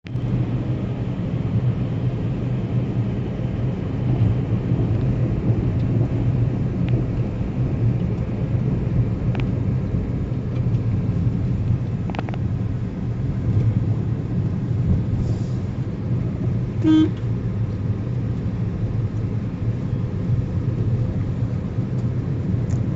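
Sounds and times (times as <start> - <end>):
car rumbling along a road: 0.0 - 22.9.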